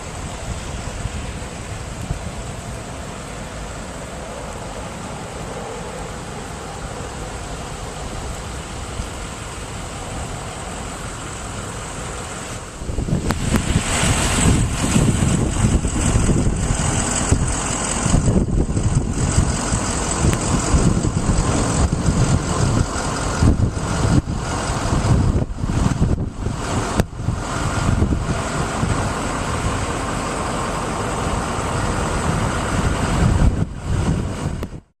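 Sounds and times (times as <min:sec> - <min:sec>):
continuous rushing noise: 0:00.0 - 0:34.9
low buffeting: 0:00.0 - 0:34.9
motor vehicle rumble: 0:00.0 - 0:34.9.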